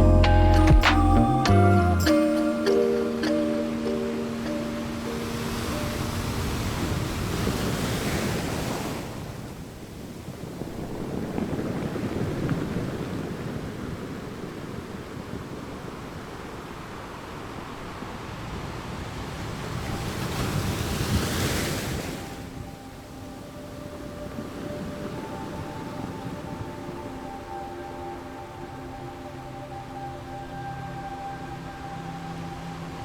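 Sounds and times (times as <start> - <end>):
ocean surf washing in: 0.1 - 33.0.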